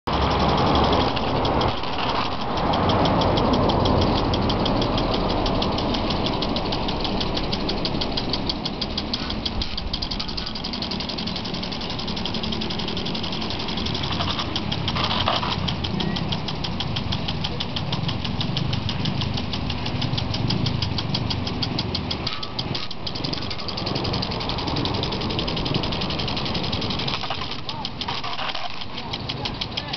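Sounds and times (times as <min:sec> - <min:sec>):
lawn sprinkler ticking: 0:00.1 - 0:29.9
water spray hissing: 0:00.1 - 0:29.9.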